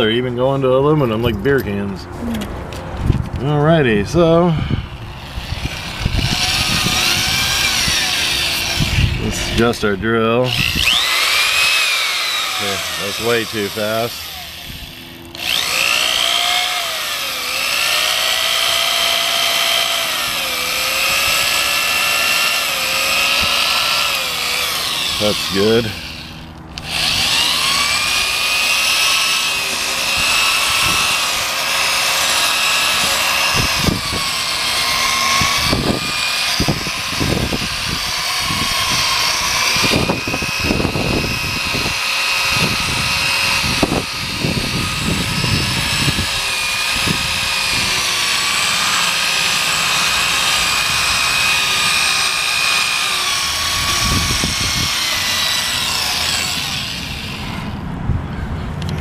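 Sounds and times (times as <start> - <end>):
electric drill whining: 4.5 - 9.9, 10.5 - 57.8.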